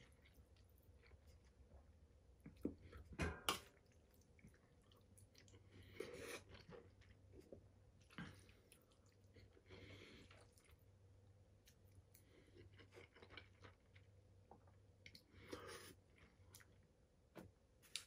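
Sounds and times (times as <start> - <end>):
faint chewing: 0.0 - 17.0
low steady hum: 0.0 - 18.0.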